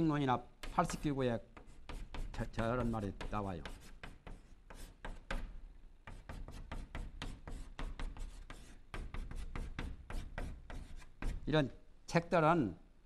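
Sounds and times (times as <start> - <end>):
chalk scratching on blackboard: 0.6 - 11.5.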